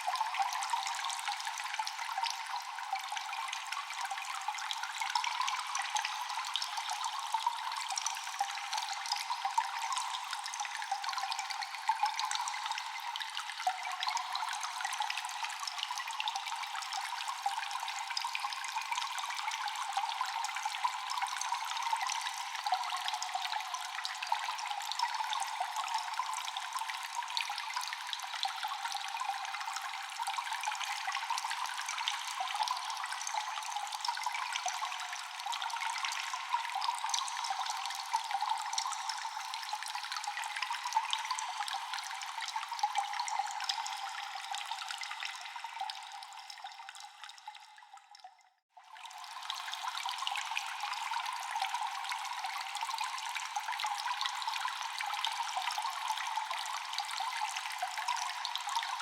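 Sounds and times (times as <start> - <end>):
water dripping with echo: 0.0 - 59.0.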